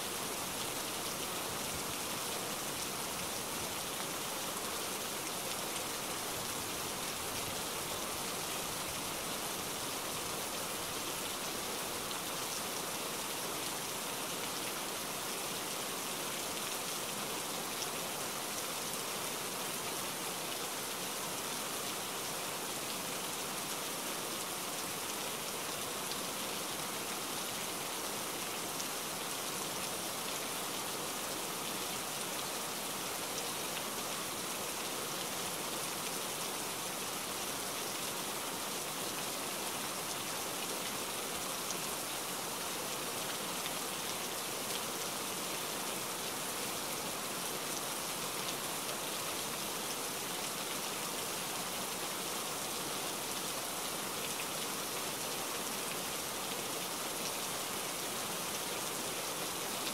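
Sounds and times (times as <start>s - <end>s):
rain falling on wet paving: 0.0s - 59.9s.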